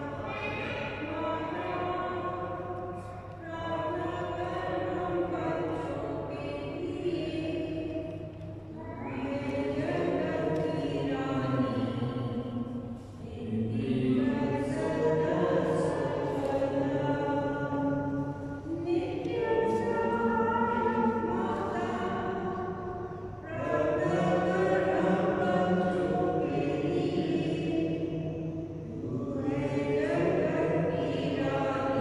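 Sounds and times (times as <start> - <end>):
voices singing a hymn: 0.0 - 32.0.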